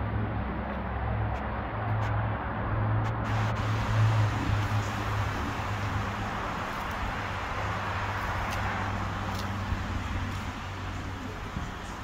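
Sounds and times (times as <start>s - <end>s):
low engine hum: 0.0s - 12.0s
road traffic rushing: 0.0s - 12.0s.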